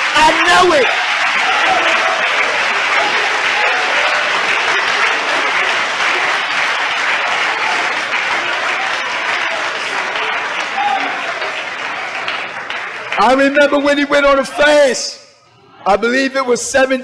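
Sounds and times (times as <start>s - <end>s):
crowd applauding: 0.0s - 14.6s.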